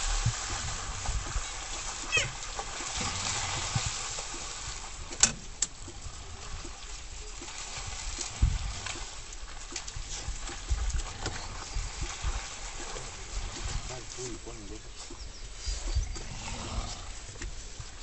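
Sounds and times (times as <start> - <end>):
steady outdoor hiss: 0.0 - 18.0
water splashing in a stream: 0.0 - 18.0.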